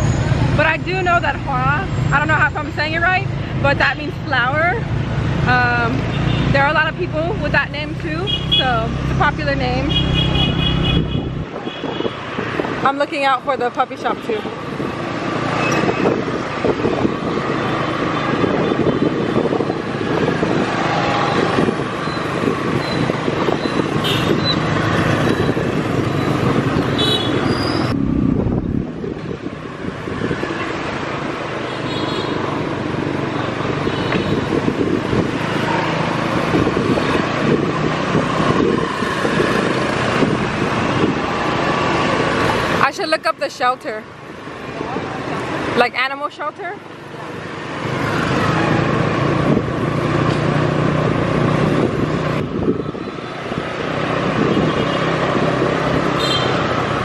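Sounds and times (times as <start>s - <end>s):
motorbike engines in traffic: 0.0s - 57.0s.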